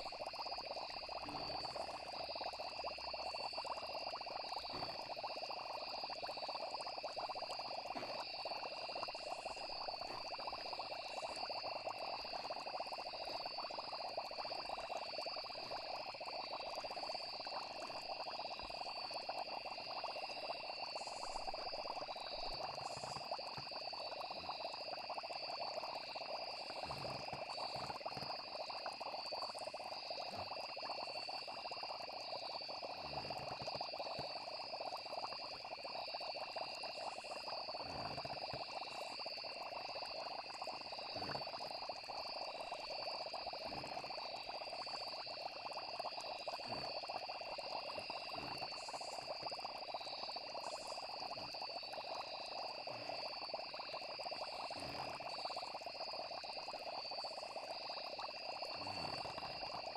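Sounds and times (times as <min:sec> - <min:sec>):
frogs croaking: 0:00.0 - 0:59.9
insects trilling: 0:00.0 - 0:59.9.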